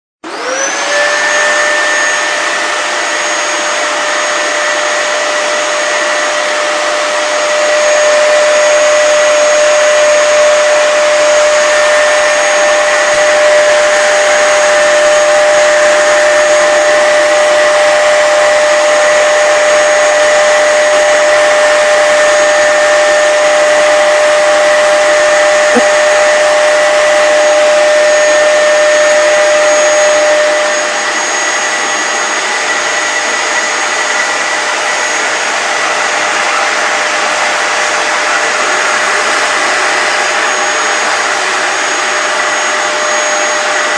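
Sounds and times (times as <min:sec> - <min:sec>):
vacuum cleaner motor whine: 0:00.2 - 0:43.9.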